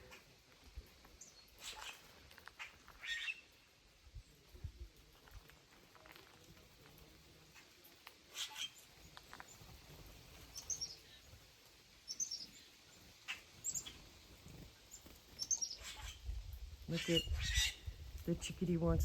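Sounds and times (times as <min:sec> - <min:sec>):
birds chirping: 0:00.0 - 0:05.6, 0:06.4 - 0:19.0
faint outdoor background noise: 0:00.0 - 0:19.0.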